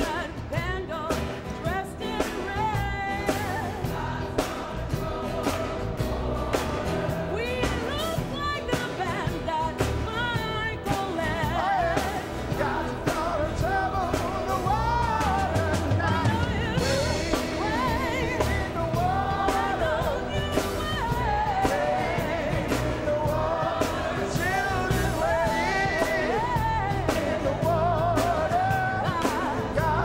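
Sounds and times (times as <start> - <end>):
person singing with vibrato: 0.0 - 30.0
steady drum beat: 0.0 - 30.0
sustained band instruments: 0.0 - 30.0.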